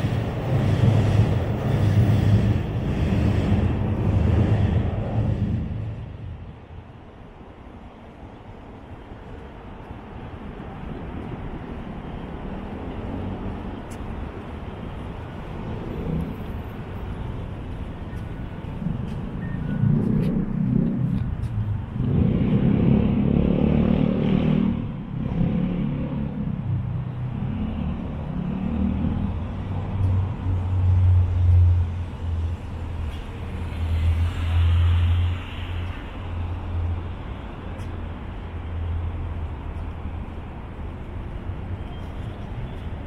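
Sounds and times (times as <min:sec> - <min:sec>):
cars passing close by: 0:00.0 - 0:07.1, 0:07.7 - 0:43.0.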